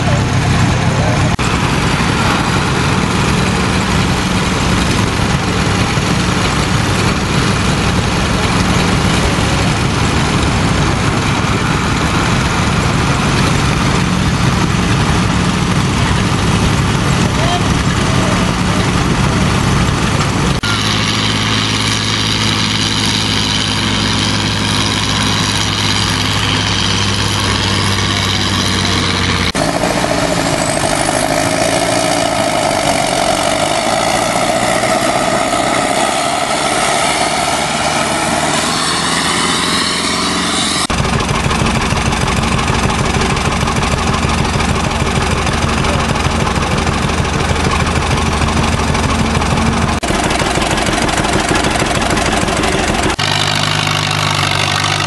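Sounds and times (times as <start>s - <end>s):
engine idling: 0.0s - 55.0s
high whine: 0.0s - 55.0s
tractor engine under load: 0.0s - 55.0s.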